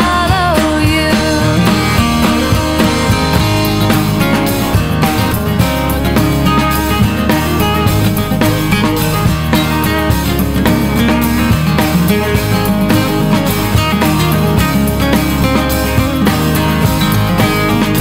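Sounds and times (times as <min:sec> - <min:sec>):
guitar-led music: 0:00.0 - 0:18.0.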